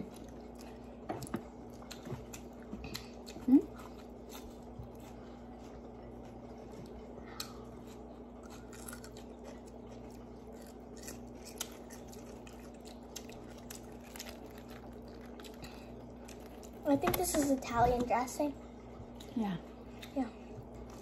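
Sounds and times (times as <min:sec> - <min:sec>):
faint electrical hum: 0:00.0 - 0:21.0
soft chewing: 0:00.0 - 0:21.0.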